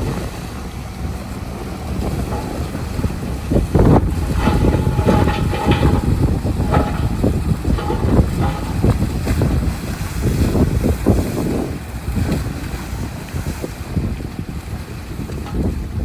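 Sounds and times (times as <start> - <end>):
machinery clanks and knocks: 0.0 - 13.2, 15.2 - 16.0
heavy machinery rumbling: 0.0 - 16.0.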